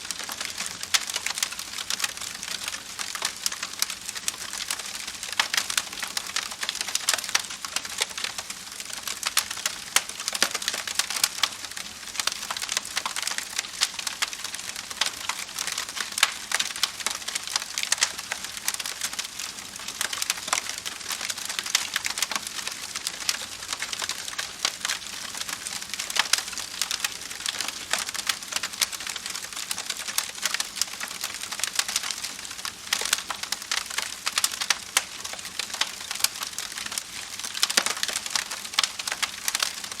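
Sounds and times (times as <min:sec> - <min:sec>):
campfire crackling: 0:00.1 - 0:40.0.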